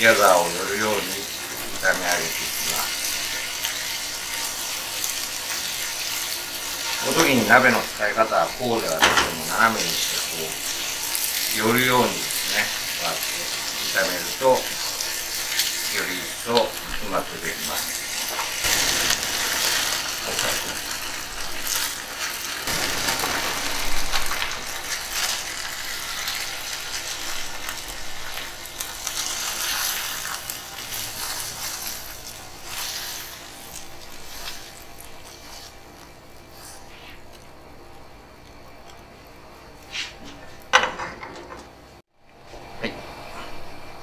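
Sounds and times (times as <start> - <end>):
light sizzle: 0.0 - 40.8.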